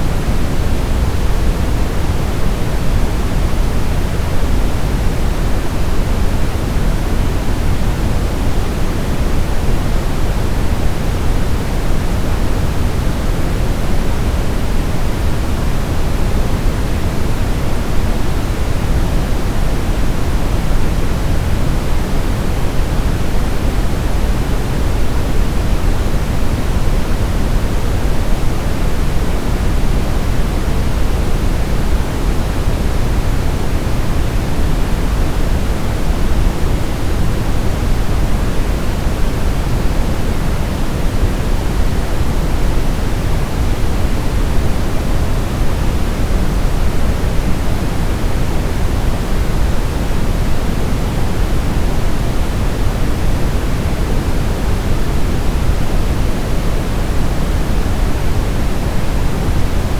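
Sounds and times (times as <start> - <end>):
steady pink noise: 0.0 - 59.9.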